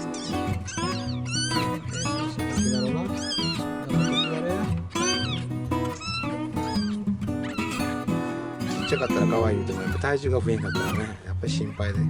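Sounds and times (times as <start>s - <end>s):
kittens mewing: 0.0s - 11.9s.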